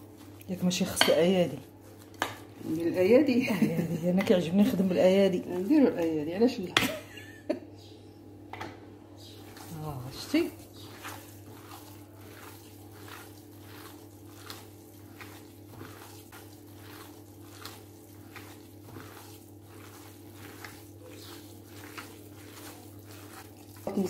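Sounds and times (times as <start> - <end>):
hand kneading wet mixture: 0.0 - 7.8, 8.8 - 24.0.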